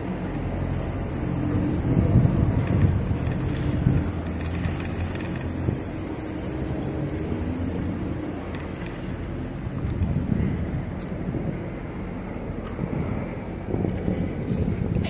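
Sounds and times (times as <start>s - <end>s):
tyres on pavement: 0.0s - 15.0s
wind on microphone: 1.3s - 8.2s, 9.6s - 15.0s.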